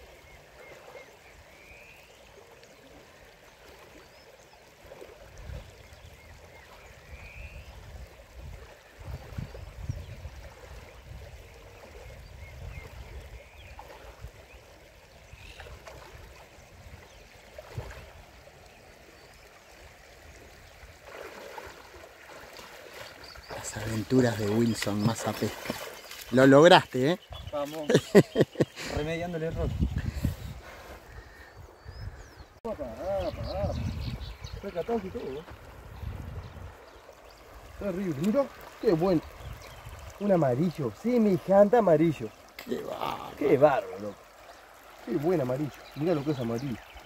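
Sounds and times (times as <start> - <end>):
river water flowing: 0.0 - 47.0.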